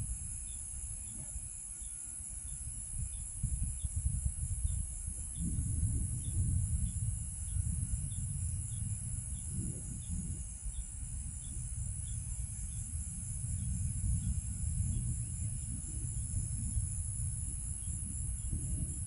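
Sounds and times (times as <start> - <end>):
high insect buzz: 0.0 - 19.0
insects chirping: 0.0 - 19.0.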